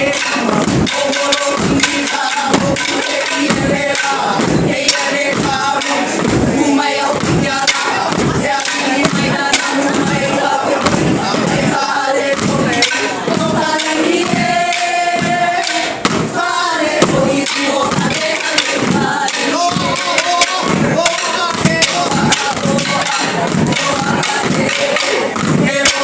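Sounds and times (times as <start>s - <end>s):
wooden sticks knocking: 0.0s - 16.3s, 16.9s - 26.0s
group of voices chanting: 0.0s - 26.0s.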